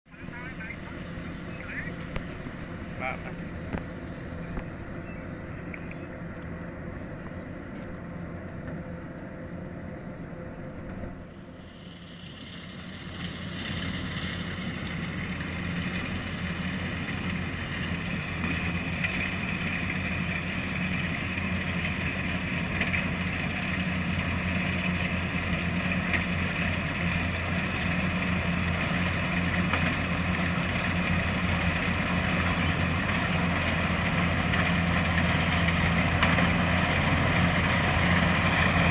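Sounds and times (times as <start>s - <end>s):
combine harvester engine drone: 0.1s - 38.9s.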